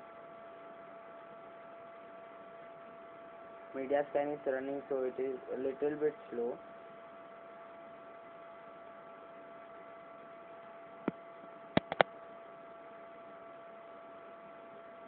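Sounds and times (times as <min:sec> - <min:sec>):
electrical hum with thin whine: 0:00.0 - 0:15.0.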